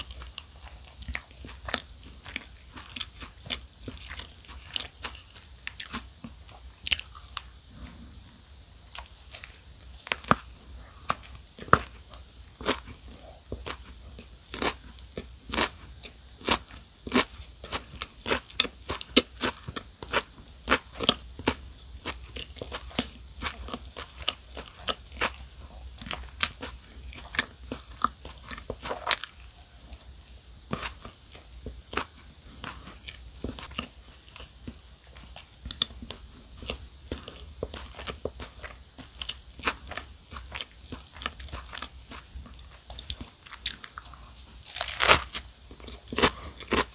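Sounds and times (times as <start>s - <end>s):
chewing with wet crunches: 0.0s - 8.0s, 8.9s - 46.9s.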